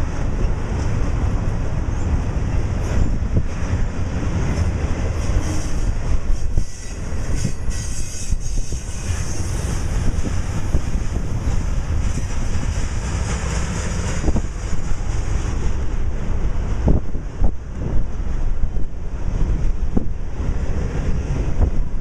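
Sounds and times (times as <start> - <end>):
freight train wheels clattering: 0.0 - 22.0.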